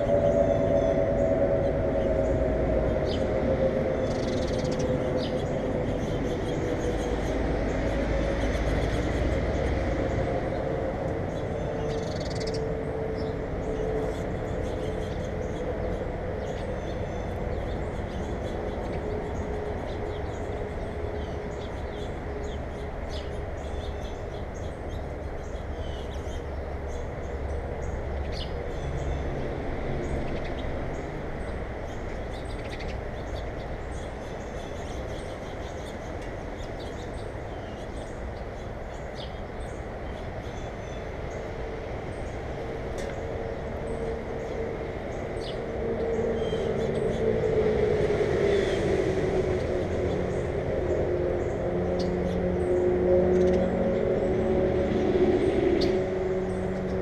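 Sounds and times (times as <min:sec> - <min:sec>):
passing vehicle hum: 0:00.0 - 0:57.0.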